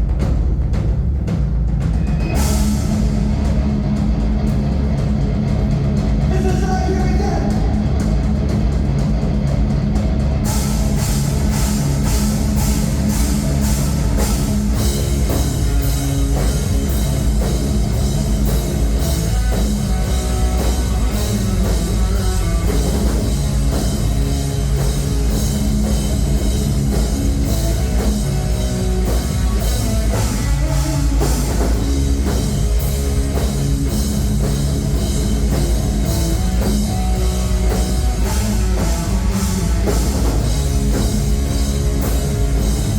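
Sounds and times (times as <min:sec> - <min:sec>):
bass guitar: 0:00.0 - 0:42.9
drum kit: 0:00.0 - 0:42.9
electric guitar: 0:02.3 - 0:42.9.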